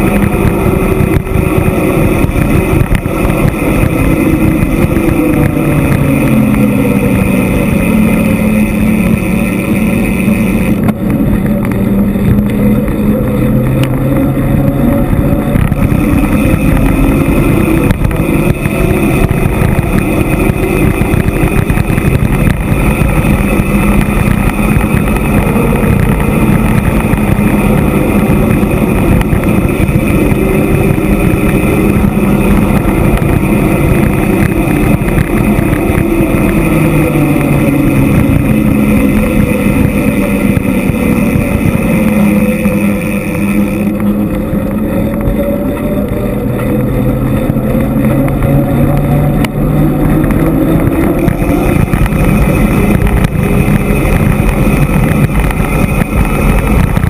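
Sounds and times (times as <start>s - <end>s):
loud wind noise on microphone: 0.0s - 57.0s
low wavering hum: 0.0s - 57.0s.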